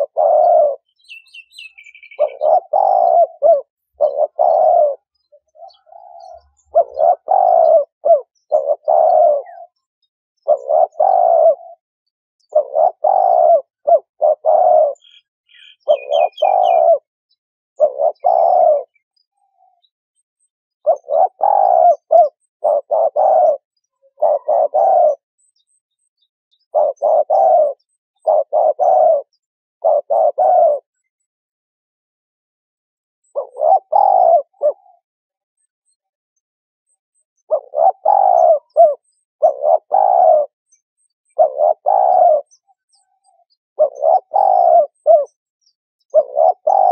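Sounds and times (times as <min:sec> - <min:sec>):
dove cooing: 0:00.0 - 0:11.8, 0:12.4 - 0:17.1, 0:17.8 - 0:19.9, 0:20.8 - 0:25.3, 0:26.6 - 0:31.1, 0:33.2 - 0:35.1, 0:37.4 - 0:40.6, 0:41.2 - 0:45.4, 0:46.0 - 0:46.9
small bird chirping: 0:00.0 - 0:31.4, 0:32.8 - 0:46.9.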